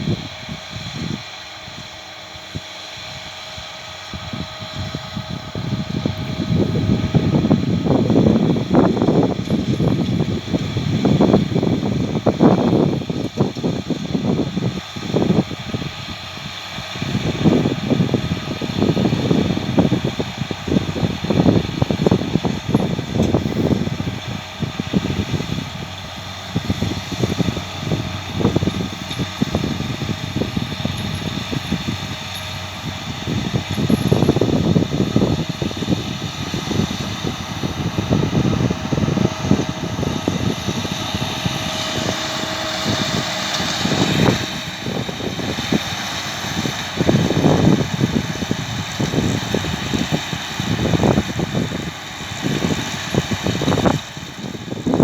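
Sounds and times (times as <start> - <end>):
round baler baling hay: 0.0 - 55.0
tractor running: 0.0 - 55.0
wind buffeting microphone: 0.0 - 55.0.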